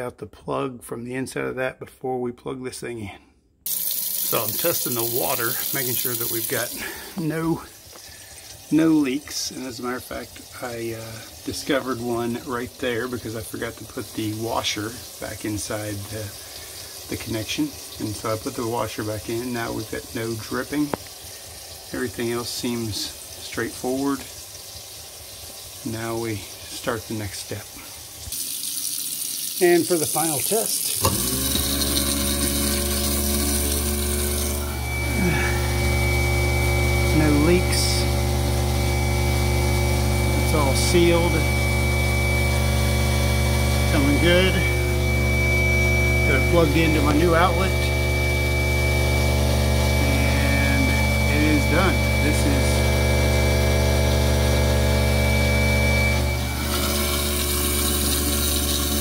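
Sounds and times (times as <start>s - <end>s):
garbage disposal motor humming: 3.7s - 59.0s
tap water running into drain: 3.7s - 59.0s.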